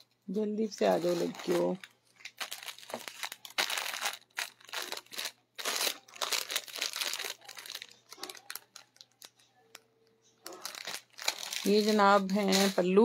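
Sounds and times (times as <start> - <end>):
plastic packet crinkling: 0.5 - 9.8, 10.4 - 13.0.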